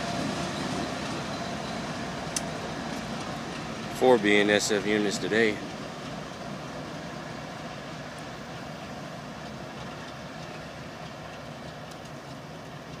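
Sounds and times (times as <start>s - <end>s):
faint locomotive engines and rails: 0.0s - 13.0s.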